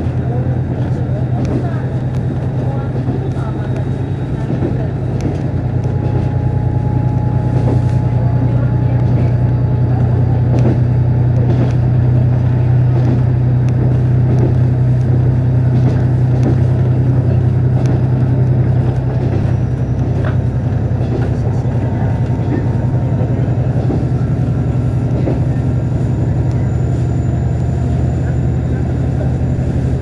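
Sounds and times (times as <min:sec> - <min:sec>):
low diesel engine drone: 0:00.0 - 0:30.0
train clicks and rattles: 0:00.0 - 0:30.0.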